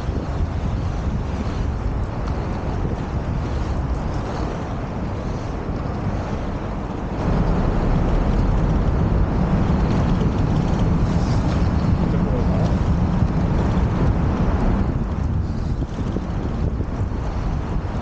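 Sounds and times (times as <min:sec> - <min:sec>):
skate wheels rolling on pavement: 0:00.0 - 0:18.0.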